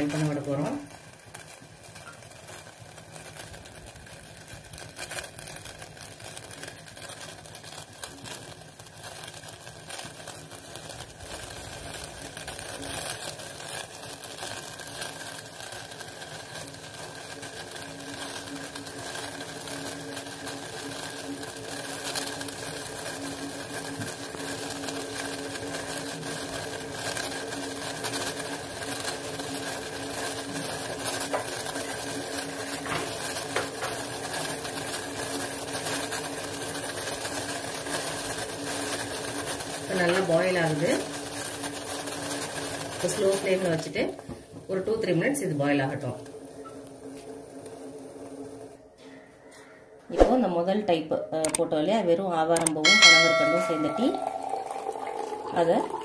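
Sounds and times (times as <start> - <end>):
water heating in pot: 0.0 - 49.0, 50.1 - 56.0.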